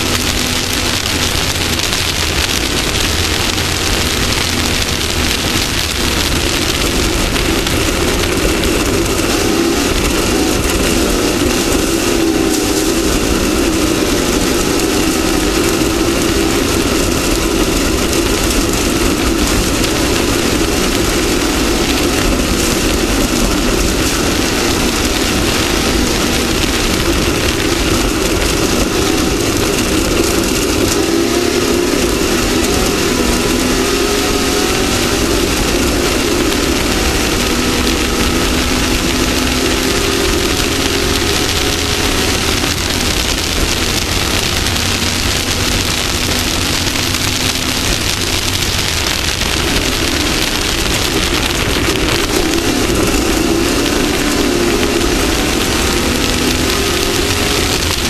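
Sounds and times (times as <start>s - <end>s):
constant noisy rush: 0.0s - 58.0s
race vehicle engine running hard: 0.0s - 58.0s.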